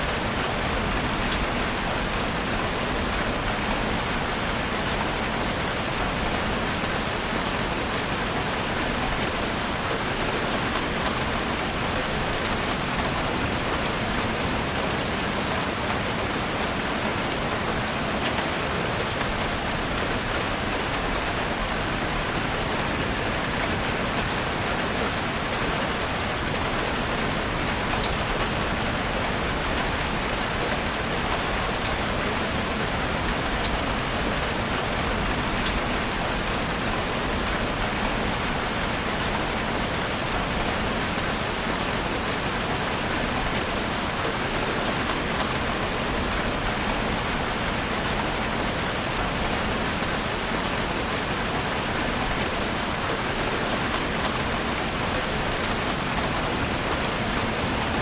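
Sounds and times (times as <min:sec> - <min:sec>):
heavy rain drumming on roof: 0:00.0 - 0:58.0.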